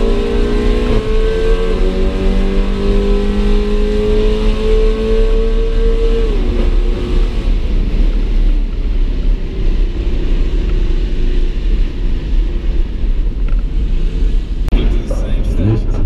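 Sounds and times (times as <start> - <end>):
car engine at high revs: 0.0 - 16.0
road and wind noise: 0.0 - 16.0.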